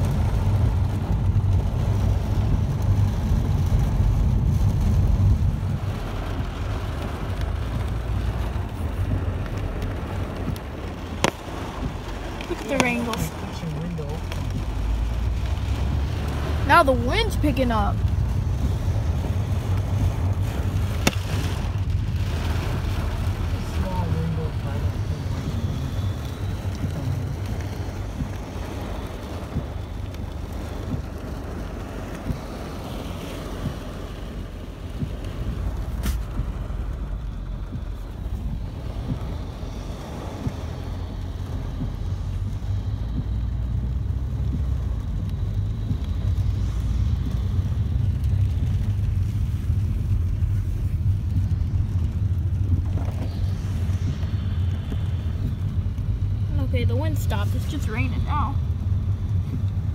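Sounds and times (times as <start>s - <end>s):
car road rumble: 0.0s - 59.9s
wind buffeting a car: 0.0s - 59.9s.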